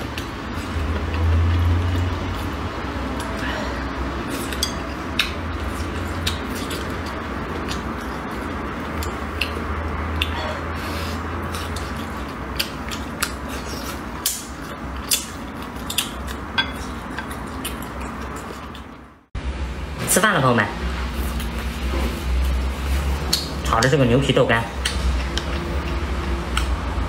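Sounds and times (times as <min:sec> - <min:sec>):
person chewing: 0:00.0 - 0:19.2, 0:21.1 - 0:24.0, 0:24.8 - 0:27.0.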